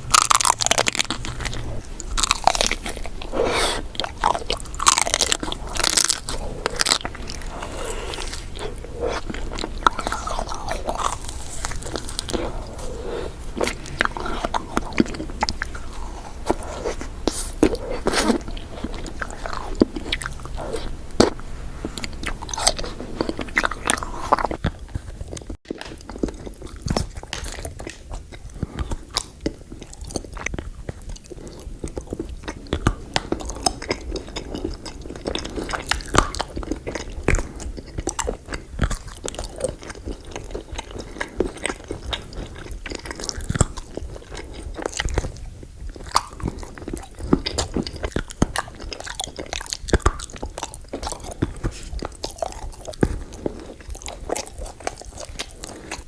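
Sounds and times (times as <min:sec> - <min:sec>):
crunchy chewing of desserts: 0:00.0 - 0:56.0.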